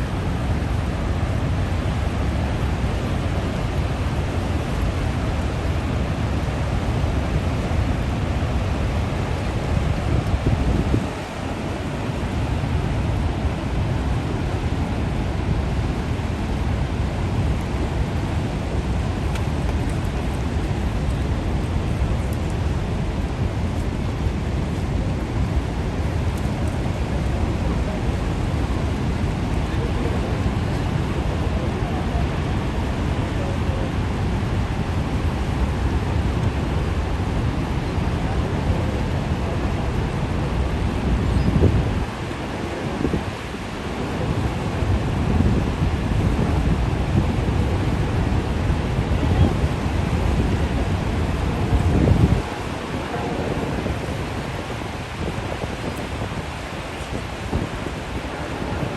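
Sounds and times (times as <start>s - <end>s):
waterfall rushing: 0.0s - 24.7s, 36.1s - 58.9s.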